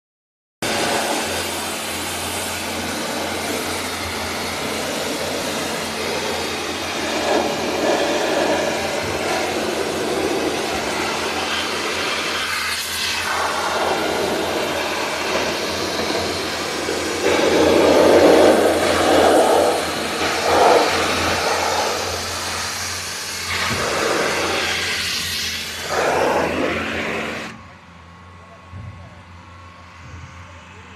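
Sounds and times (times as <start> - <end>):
water jet spraying on metal: 0.6 - 27.5
steady low hum: 0.6 - 30.9.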